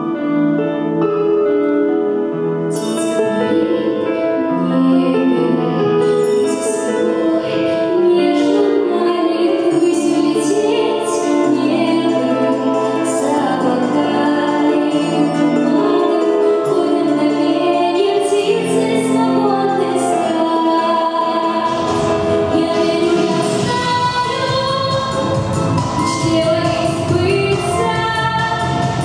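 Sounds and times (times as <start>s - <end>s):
instrumental backing track: 0.0s - 29.0s
girl singing pop song: 2.7s - 29.0s.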